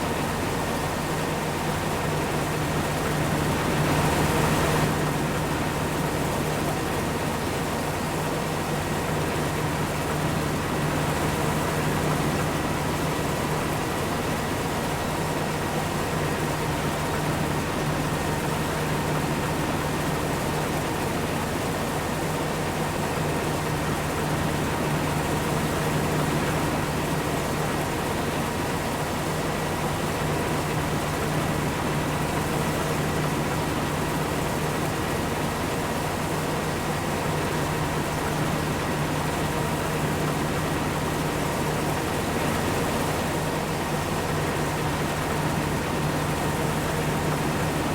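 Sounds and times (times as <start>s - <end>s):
farm machinery engine drone: 0.0s - 47.9s.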